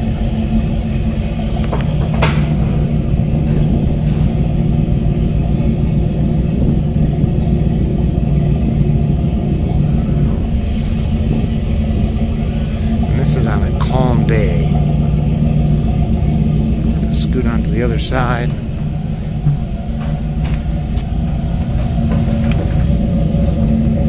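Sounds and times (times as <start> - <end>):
boat engines rumbling: 0.0 - 24.0.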